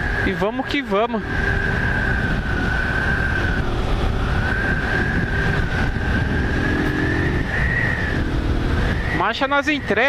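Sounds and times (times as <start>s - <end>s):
high whine: 0.0s - 10.0s
motorcycle engine cruising: 0.0s - 10.0s
wind rush: 0.0s - 10.0s.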